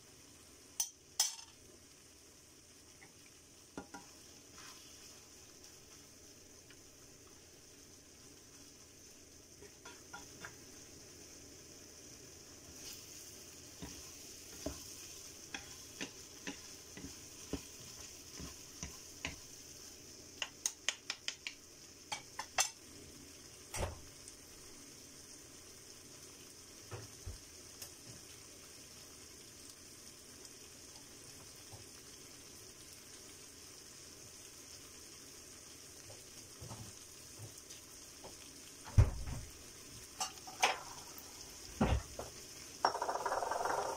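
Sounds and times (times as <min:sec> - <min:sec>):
meat sizzling in a frying pan: 0:00.0 - 0:43.9.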